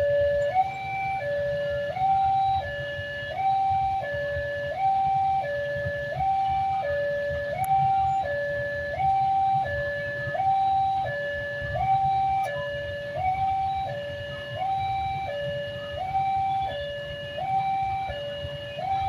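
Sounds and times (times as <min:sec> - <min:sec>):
two-tone crossing warning siren: 0:00.0 - 0:19.0.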